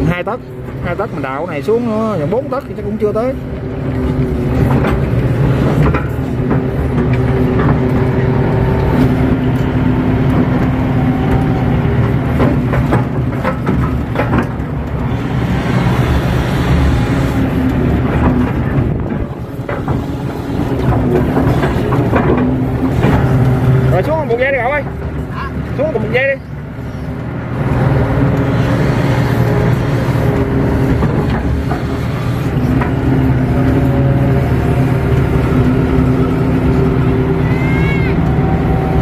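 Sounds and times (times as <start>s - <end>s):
excavator diesel engine under load: 0.0s - 39.0s.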